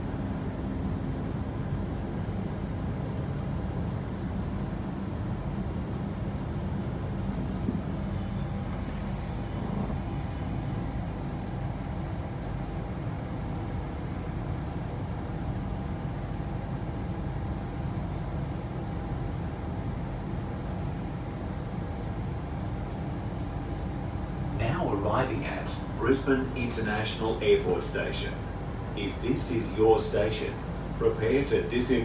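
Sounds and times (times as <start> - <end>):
faint steady whine: 0.0 - 32.0
train cabin rumble: 1.3 - 32.0.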